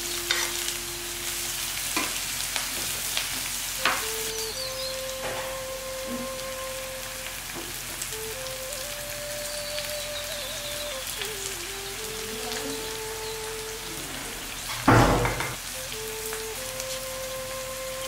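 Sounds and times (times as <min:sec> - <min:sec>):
loud sizzle burst: 0:00.0 - 0:18.0
oil sizzling in a frying pan: 0:00.0 - 0:18.0.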